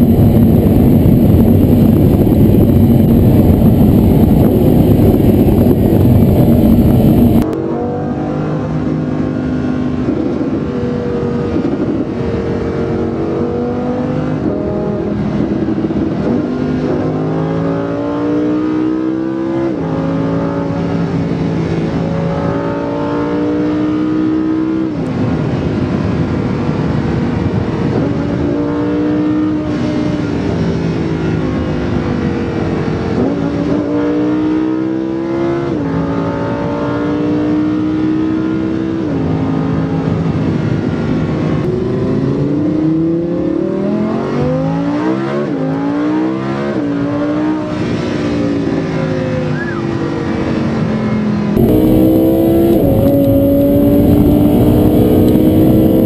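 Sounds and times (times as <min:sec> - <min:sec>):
tyre and wind noise: 0:00.0 - 0:07.6, 0:08.9 - 0:56.0
car engine at high speed: 0:00.0 - 0:56.0.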